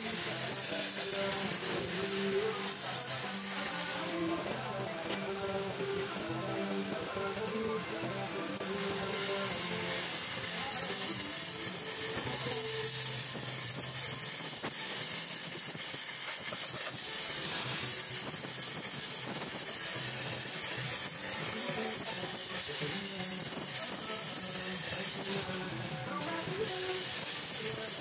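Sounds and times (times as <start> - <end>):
welding torch flame hissing: 0.0 - 28.0.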